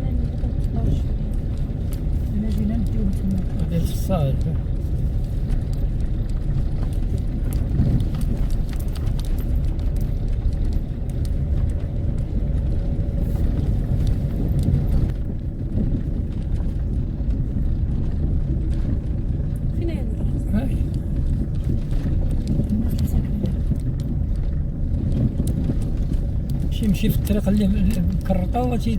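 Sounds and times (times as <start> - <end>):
car engine and road rumble: 0.0 - 28.9
light rattles and clicks: 0.0 - 28.9.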